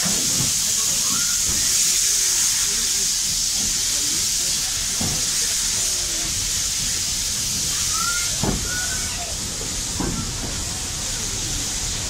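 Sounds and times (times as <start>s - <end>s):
steam engine chuffs: 0.0s - 12.0s
steam hissing loudly: 0.0s - 12.0s.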